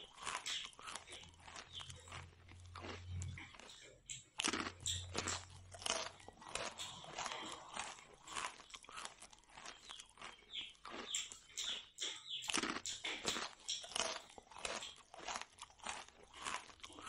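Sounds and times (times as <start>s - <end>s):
chewing crisp bread: 0.0s - 17.0s.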